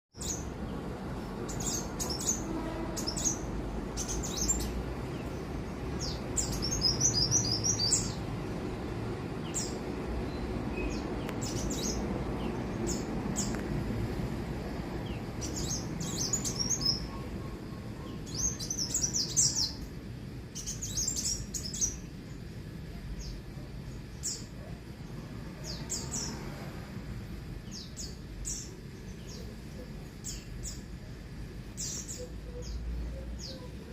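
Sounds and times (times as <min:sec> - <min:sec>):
sunbirds chirping: 0:00.1 - 0:33.9.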